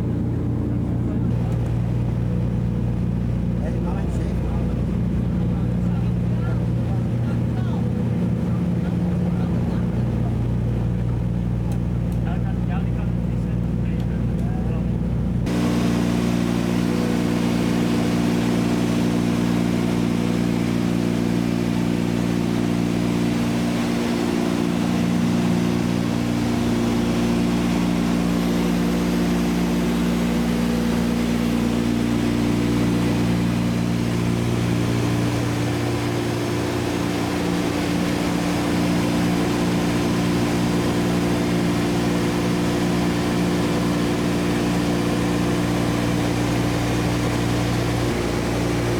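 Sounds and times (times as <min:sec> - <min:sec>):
propeller plane engines droning: 0:00.0 - 0:48.9.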